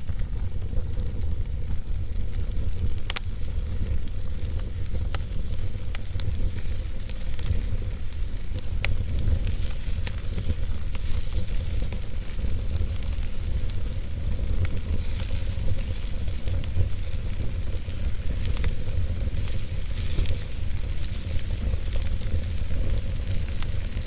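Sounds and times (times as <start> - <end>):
steady low rumble: 0.0 - 24.0
wood fire crackling: 0.0 - 24.0.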